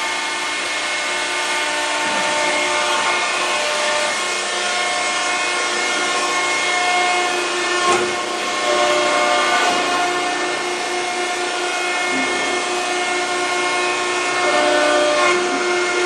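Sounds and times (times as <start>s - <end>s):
hydraulic pump whine: 0.0s - 16.0s.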